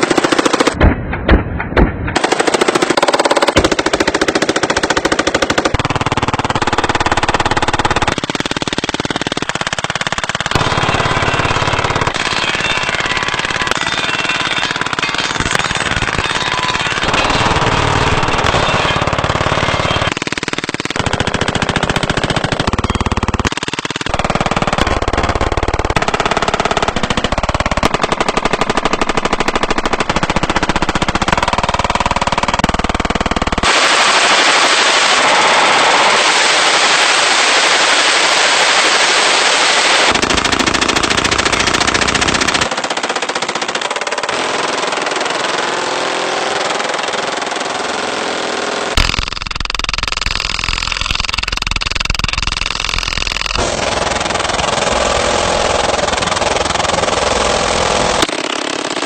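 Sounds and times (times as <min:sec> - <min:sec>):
automatic gunfire: 0:02.2 - 0:37.2, 0:37.8 - 0:59.0.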